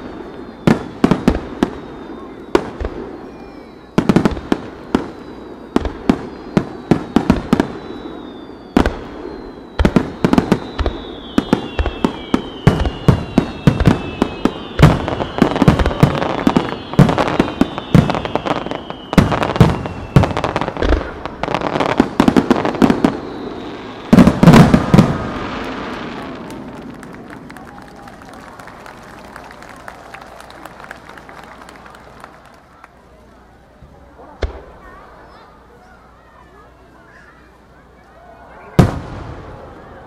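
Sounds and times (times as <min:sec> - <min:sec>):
fireworks whistling: 0:00.0 - 0:32.6, 0:38.4 - 0:40.0
fireworks bangs: 0:00.0 - 0:32.9, 0:33.8 - 0:35.6, 0:38.5 - 0:40.0.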